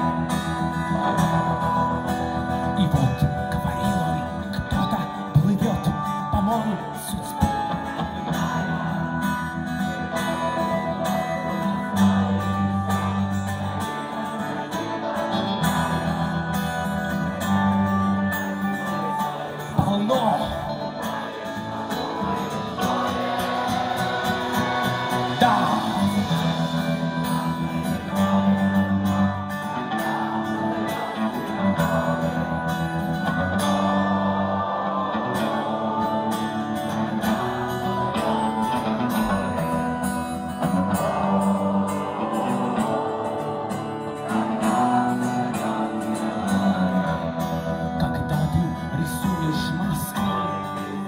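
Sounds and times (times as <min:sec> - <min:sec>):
folk-rock band playing: 0:00.0 - 0:51.0
person singing: 0:02.8 - 0:51.0.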